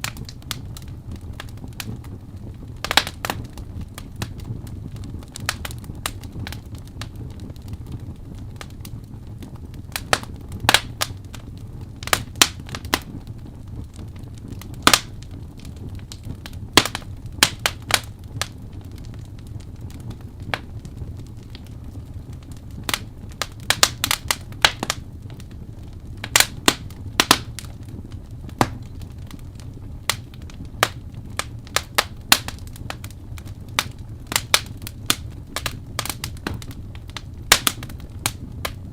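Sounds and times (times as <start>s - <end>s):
campfire snaps and pops: 0.0s - 38.9s
low rumble of burning fire: 0.0s - 38.9s.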